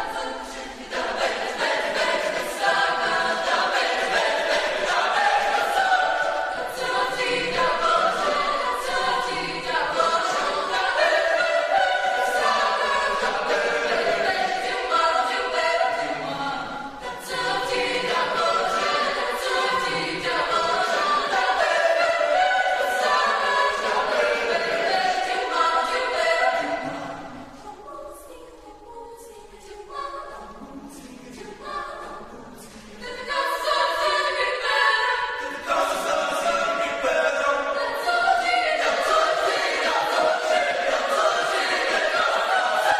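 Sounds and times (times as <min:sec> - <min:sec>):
choir singing a cappella: 0:00.0 - 0:42.9.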